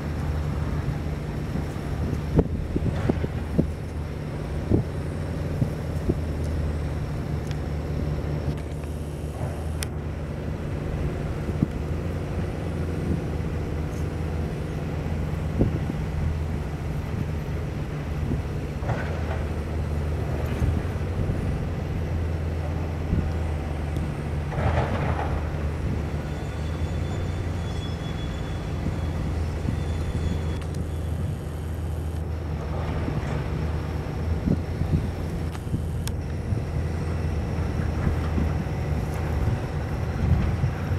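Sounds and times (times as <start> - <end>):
low engine hum: 0.0 - 40.9.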